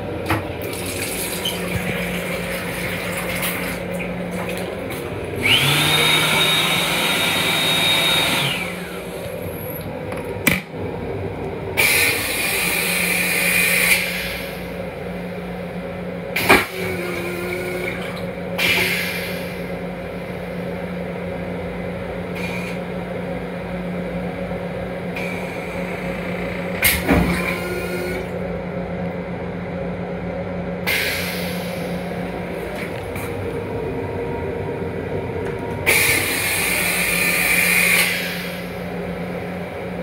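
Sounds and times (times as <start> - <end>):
steady low hum: 0.0 - 7.4, 8.4 - 40.0.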